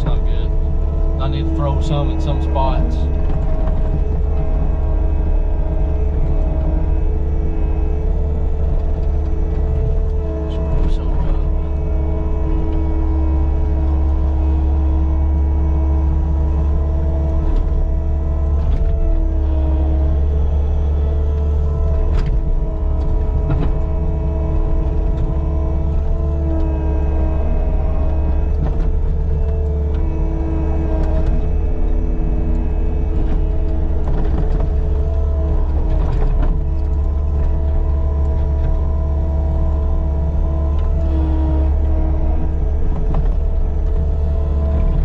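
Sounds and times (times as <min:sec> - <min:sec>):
diesel engine drone: 0:00.0 - 0:45.0
hydraulic whine: 0:00.0 - 0:45.0.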